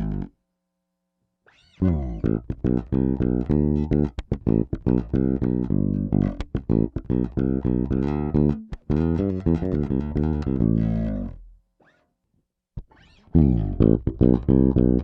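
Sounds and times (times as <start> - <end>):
electric bass plucked notes: 0.0 - 0.3, 1.8 - 11.6, 12.8 - 15.0.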